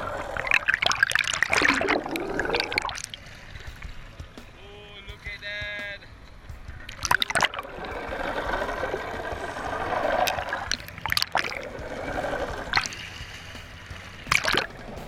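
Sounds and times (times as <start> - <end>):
water bubbling underwater: 0.0 - 4.1, 6.8 - 15.0
water splashing: 0.0 - 15.0.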